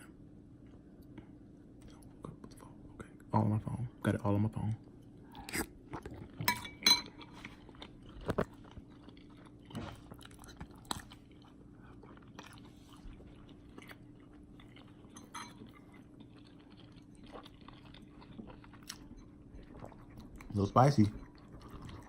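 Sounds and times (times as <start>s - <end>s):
person chewing food: 0.6s - 2.8s, 4.8s - 22.0s.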